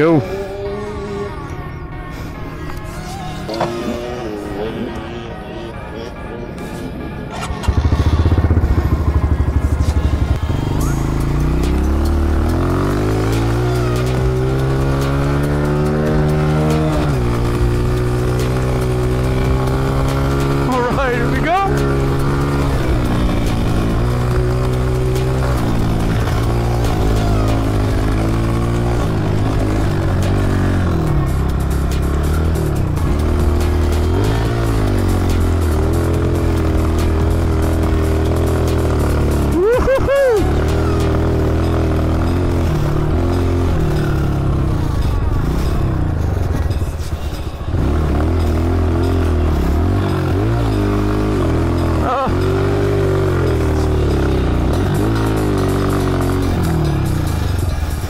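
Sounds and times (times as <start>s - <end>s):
dirt bike engine running hard: 7.3s - 58.0s.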